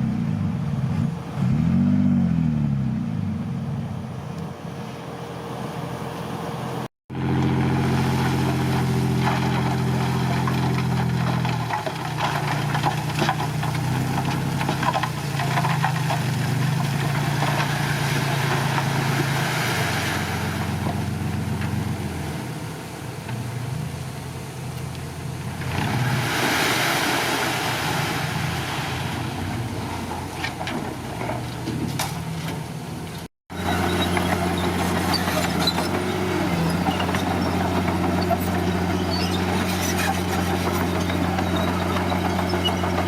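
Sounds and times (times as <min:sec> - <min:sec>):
heavy diesel engine running: 0:02.3 - 0:25.6, 0:29.2 - 0:43.0.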